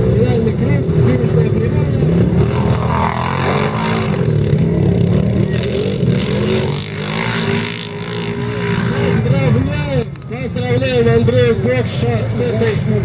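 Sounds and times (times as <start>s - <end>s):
quad bike engines revving: 0.0s - 13.0s.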